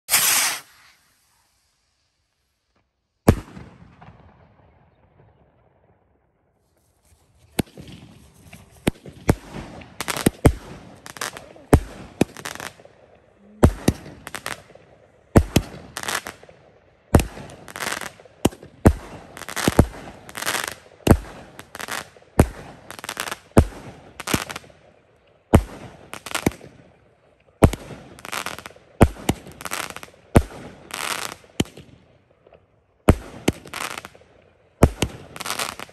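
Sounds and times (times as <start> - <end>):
fireworks bangs: 0.0 - 1.7, 2.7 - 6.0, 7.0 - 24.8, 25.5 - 26.9, 27.6 - 35.9
fireworks crackling: 0.0 - 4.4, 6.6 - 35.9.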